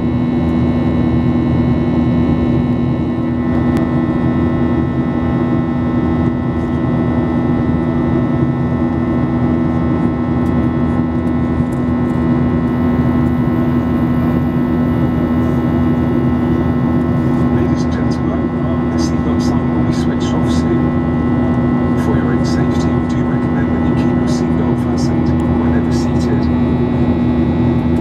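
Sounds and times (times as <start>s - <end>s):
jet engine drone in cabin: 0.0s - 28.0s.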